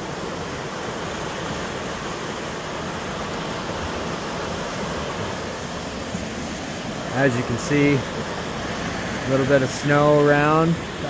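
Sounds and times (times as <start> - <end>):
river water rushing over riffle: 0.0 - 11.0.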